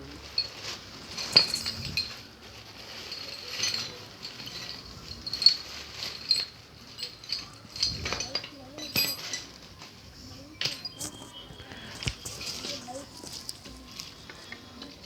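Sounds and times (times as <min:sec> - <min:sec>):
metal tools clinking: 0:00.1 - 0:15.0.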